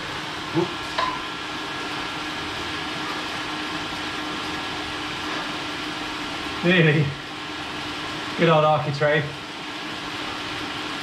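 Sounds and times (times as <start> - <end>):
bicycle rollers whirring: 0.0 - 11.0.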